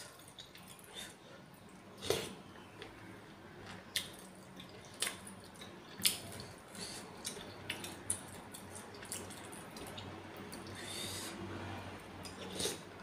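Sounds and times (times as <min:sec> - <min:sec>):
chewing soup: 0:00.0 - 0:03.0, 0:03.6 - 0:11.3.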